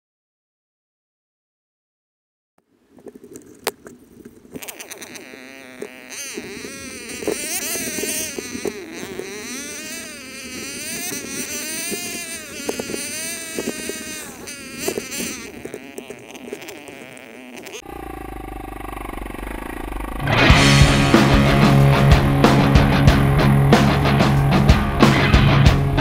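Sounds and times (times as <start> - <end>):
dirt bike engine revving: 5.0 - 26.0.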